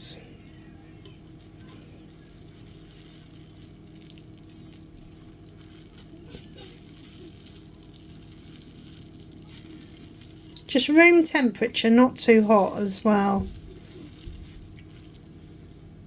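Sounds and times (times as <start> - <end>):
soap suds fizzing: 0.0 - 16.0.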